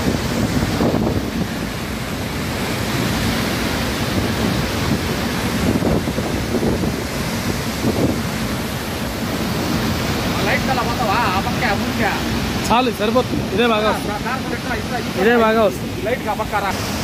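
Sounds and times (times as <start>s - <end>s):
wind buffeting microphone: 0.0s - 16.8s
waterfall rushing: 0.0s - 17.0s.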